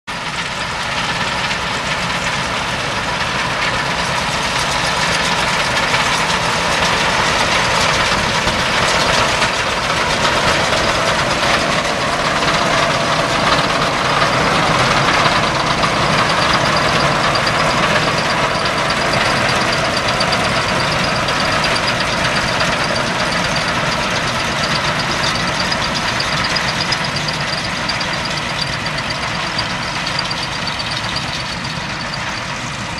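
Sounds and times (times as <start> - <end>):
tractor engine under load: 0.1 - 32.9
faint high machinery whine: 0.2 - 32.9.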